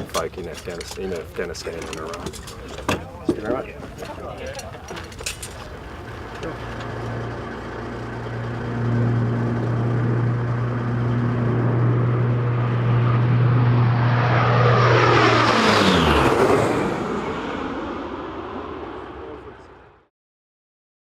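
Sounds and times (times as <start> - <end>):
turboprop plane flying past: 0.0 - 20.1.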